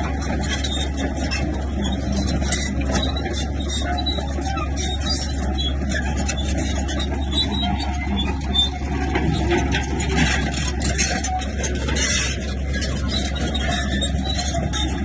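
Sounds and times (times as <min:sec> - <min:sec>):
bulldozer engine droning: 0:00.0 - 0:15.0
tracks clattering and scraping: 0:00.0 - 0:15.0.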